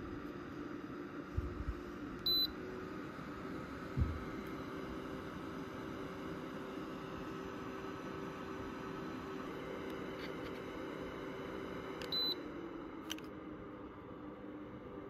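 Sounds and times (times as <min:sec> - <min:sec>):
air purifier fan humming: 0:00.0 - 0:15.0.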